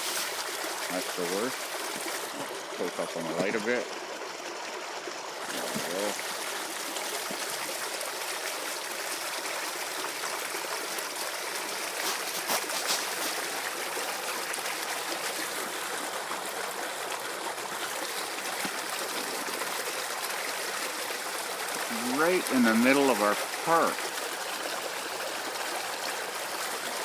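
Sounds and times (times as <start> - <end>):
water rushing over ground: 0.0 - 27.0
water splashes: 0.0 - 27.0.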